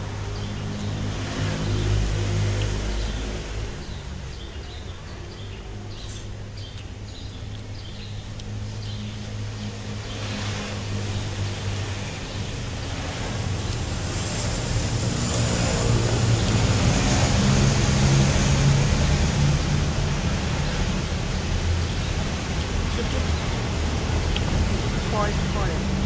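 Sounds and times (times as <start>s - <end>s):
road traffic engine rumble: 0.0s - 26.0s.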